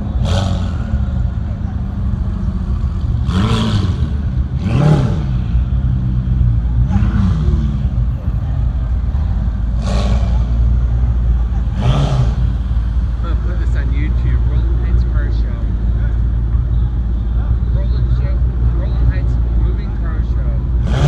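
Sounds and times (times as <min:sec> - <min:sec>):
sports car engines idling: 0:00.0 - 0:21.0.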